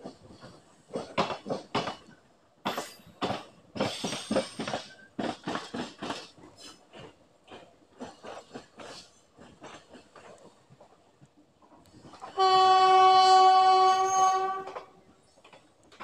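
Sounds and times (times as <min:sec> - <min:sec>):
train wheels clattering over rails: 0:00.0 - 0:16.0.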